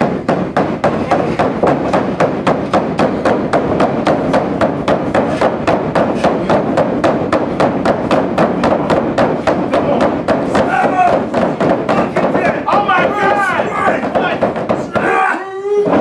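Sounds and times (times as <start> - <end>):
rapid pounding on wrestling mat: 0.0 - 16.0.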